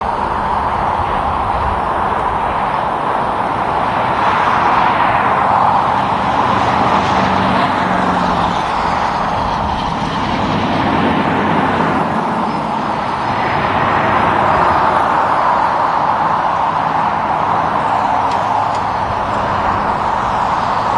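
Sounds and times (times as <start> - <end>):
low engine hum: 0.0 - 20.9
road traffic passing: 0.0 - 20.9.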